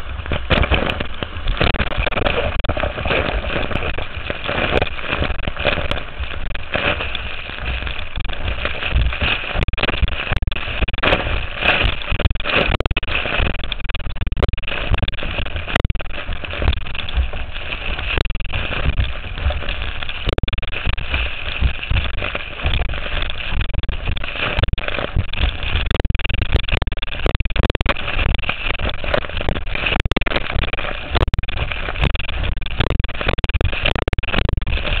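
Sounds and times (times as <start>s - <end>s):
watercraft engine and water noise: 0.0s - 35.0s
wind buffeting camera: 0.0s - 35.0s.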